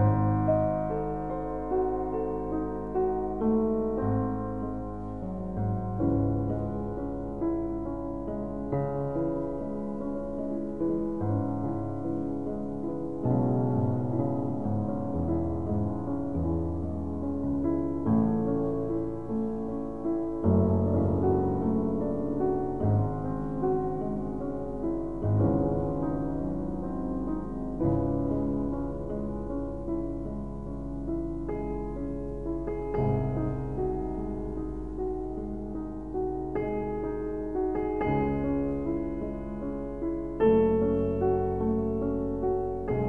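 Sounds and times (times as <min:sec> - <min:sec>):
piano notes and chords: 0:00.0 - 0:43.0.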